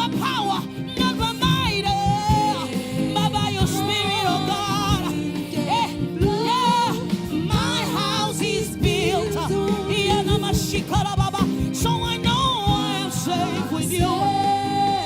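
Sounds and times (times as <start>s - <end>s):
band chords and bass: 0.0s - 15.0s
high lead voice singing: 0.0s - 15.0s.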